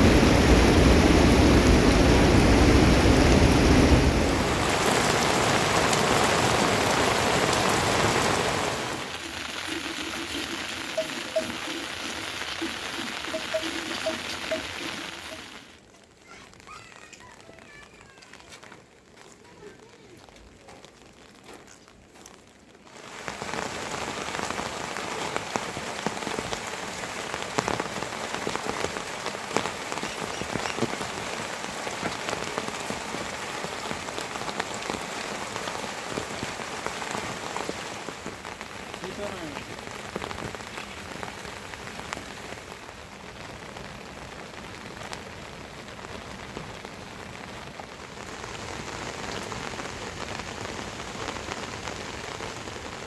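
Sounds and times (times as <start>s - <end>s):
raindrops ticking on surfaces: 0.0s - 53.0s
steady rain falling: 0.0s - 53.0s.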